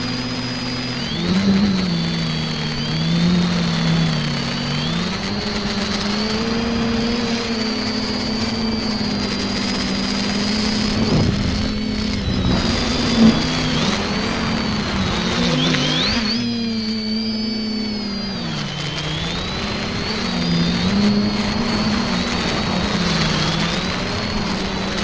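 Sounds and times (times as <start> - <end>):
drone motors buzzing: 0.0 - 25.0.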